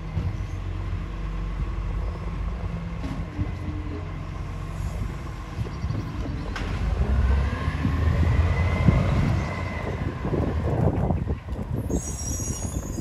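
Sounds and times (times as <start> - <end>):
garbage truck diesel engine: 0.0 - 10.8.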